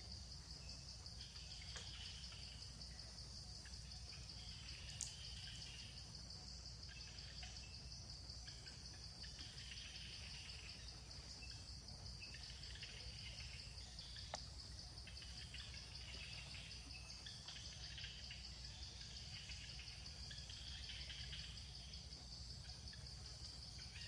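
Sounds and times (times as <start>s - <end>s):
insect chirps: 0.0s - 24.0s
insects droning: 0.0s - 24.0s.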